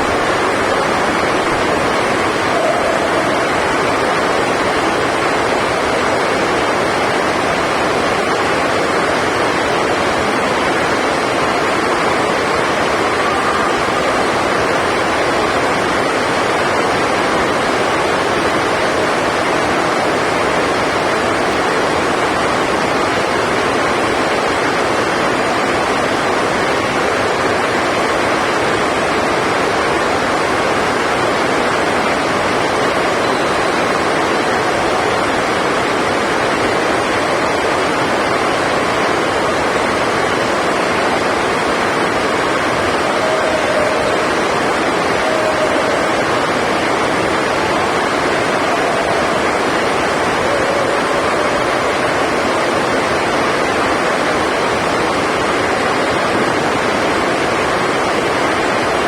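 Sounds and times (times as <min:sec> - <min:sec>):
heavy rain on roof: 0:00.0 - 0:59.0.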